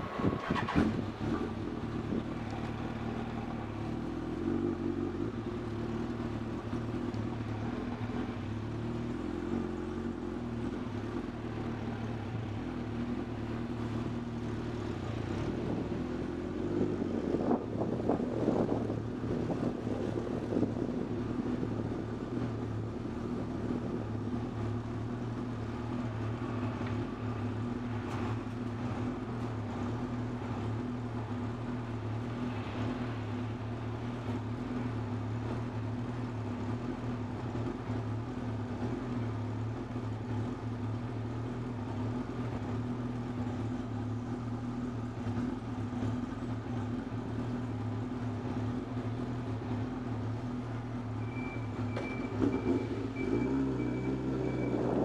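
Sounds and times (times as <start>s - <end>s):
motorcycle engine running: 0.0s - 32.4s, 33.3s - 55.0s.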